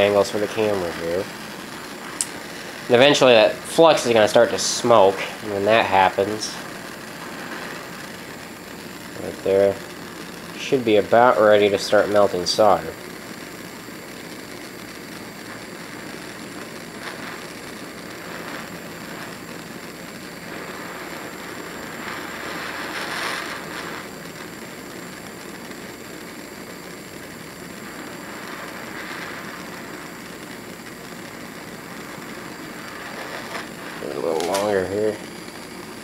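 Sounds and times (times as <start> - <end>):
propane torch hissing: 0.0 - 36.0.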